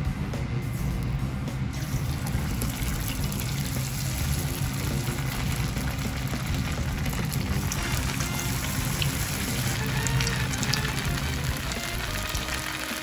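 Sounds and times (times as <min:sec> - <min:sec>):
tofu sizzling in hot oil: 0:01.8 - 0:13.0.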